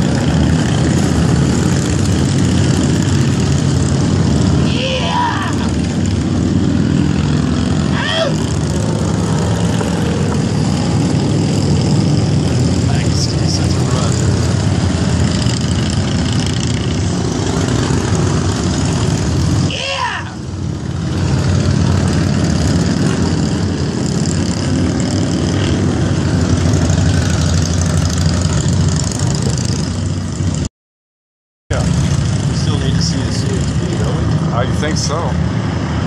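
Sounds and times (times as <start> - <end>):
motorcycles riding past: 0.0 - 30.7, 31.7 - 36.0.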